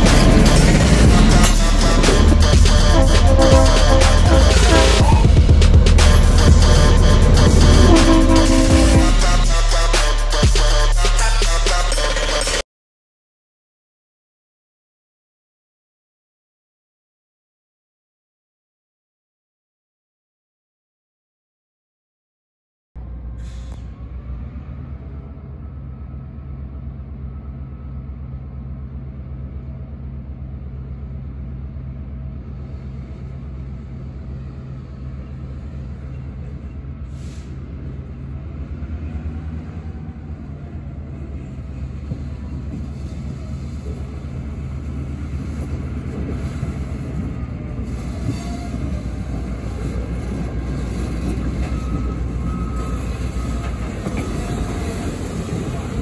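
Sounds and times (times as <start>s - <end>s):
diesel locomotive engine drone: 0.0s - 12.6s, 23.0s - 56.0s.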